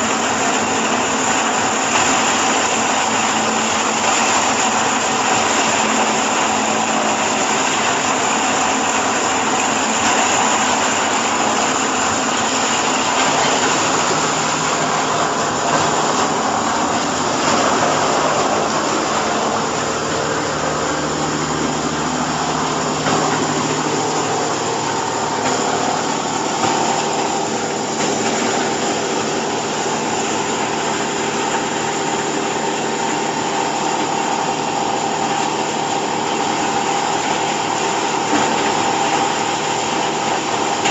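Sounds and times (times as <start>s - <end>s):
baling machine droning: 0.0s - 40.9s.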